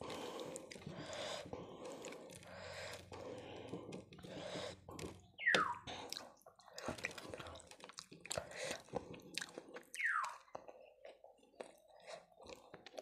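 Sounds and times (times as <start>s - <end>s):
wet chewing and squishing: 0.0s - 13.0s.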